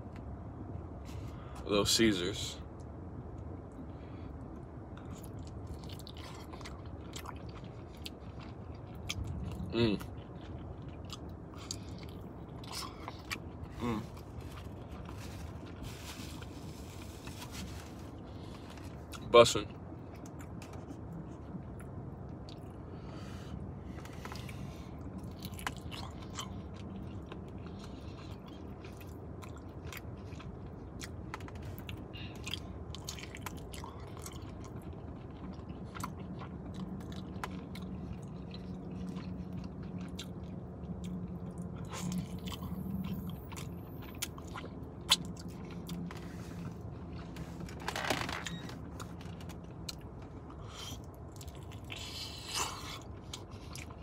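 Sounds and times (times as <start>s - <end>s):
chewing crispy chicken wings: 5.0s - 54.0s.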